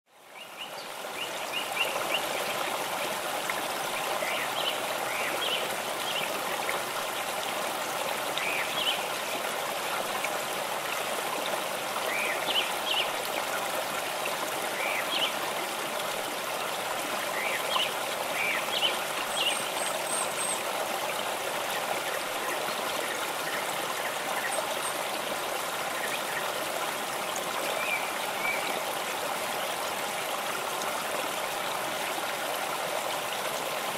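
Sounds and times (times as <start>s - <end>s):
running water rushing: 0.1s - 33.9s.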